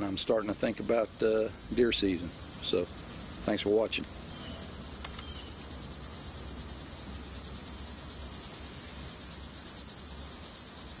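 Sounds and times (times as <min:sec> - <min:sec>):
insect chorus buzzing: 0:00.0 - 0:11.0.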